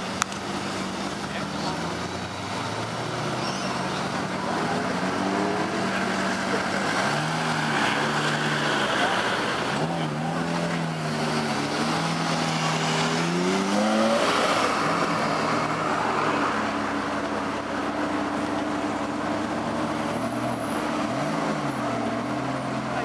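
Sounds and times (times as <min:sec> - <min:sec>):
sports car engine revving: 0:00.0 - 0:23.0.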